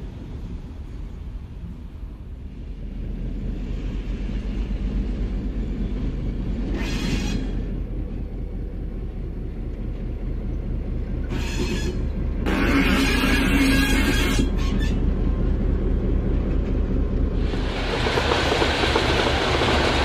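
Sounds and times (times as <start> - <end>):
locomotive engine rumbling: 0.0 - 20.0.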